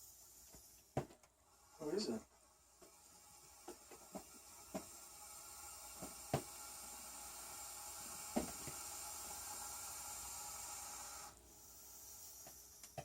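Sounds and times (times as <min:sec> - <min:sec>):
snake hissing: 0:00.0 - 0:13.0.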